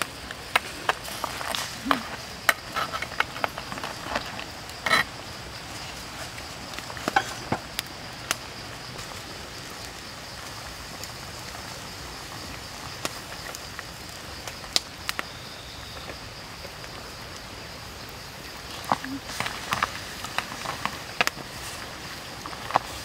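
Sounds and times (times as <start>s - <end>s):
faint high insect drone: 0.0s - 23.0s
soup simmering hiss: 0.0s - 23.0s
wood fire crackling: 0.0s - 23.0s.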